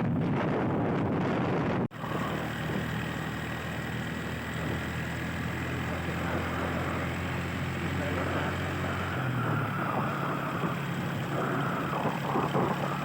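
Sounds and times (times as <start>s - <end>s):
vehicle engine running: 0.1s - 13.0s.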